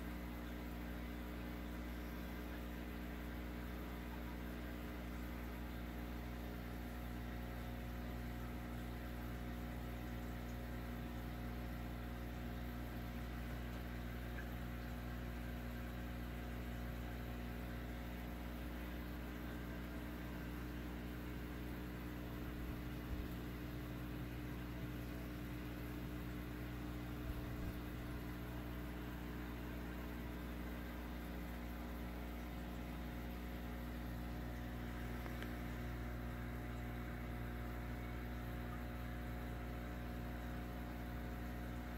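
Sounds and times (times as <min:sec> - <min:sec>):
aquarium equipment humming: 0:00.0 - 0:41.9.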